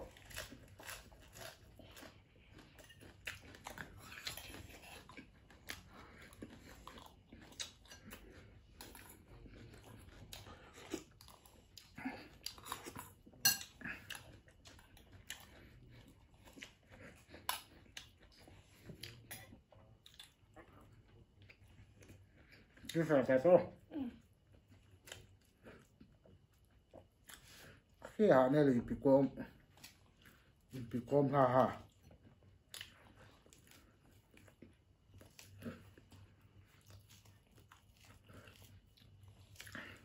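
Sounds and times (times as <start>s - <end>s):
chewing: 0.0s - 23.0s, 23.7s - 28.2s, 31.6s - 40.0s.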